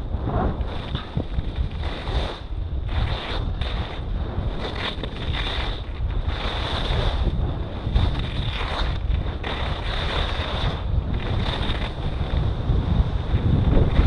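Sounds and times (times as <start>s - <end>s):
wind buffeting microphone: 0.0s - 14.0s
skis scraping packed snow: 0.2s - 14.0s.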